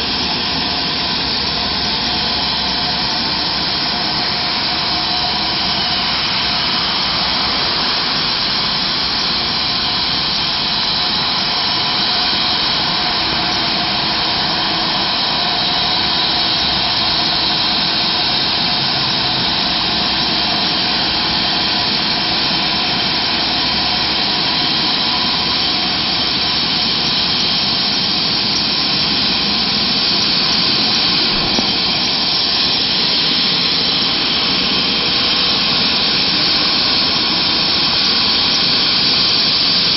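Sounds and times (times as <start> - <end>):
helicopter turbine whine: 0.0 - 39.9.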